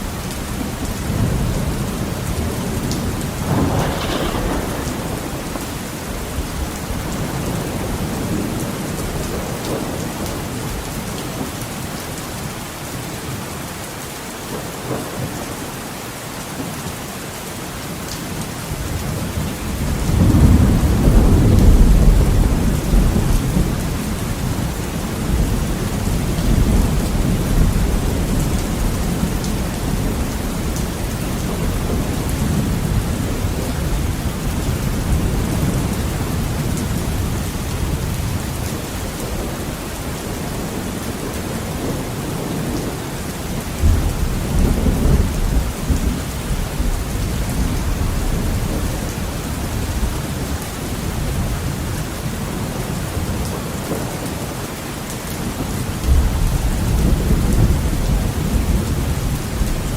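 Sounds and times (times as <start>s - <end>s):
heavy rain on a window: 0.0s - 59.9s
low rolling thunder: 0.5s - 11.0s, 18.8s - 54.1s, 55.4s - 59.9s.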